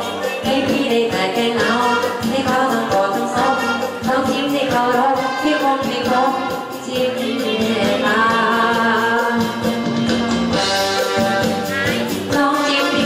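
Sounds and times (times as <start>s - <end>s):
drum-backed instrumental track: 0.0s - 13.0s.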